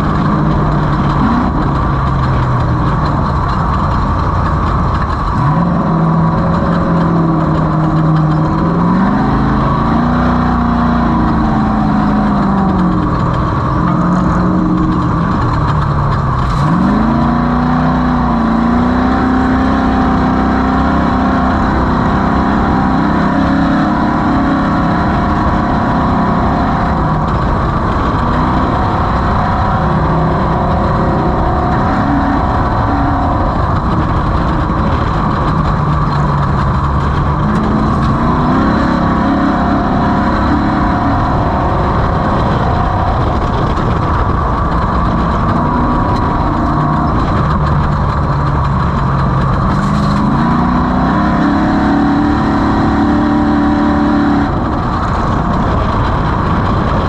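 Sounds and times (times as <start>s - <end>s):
race vehicle engine at speed: 0.0s - 57.0s
wind and terrain noise: 0.0s - 57.0s.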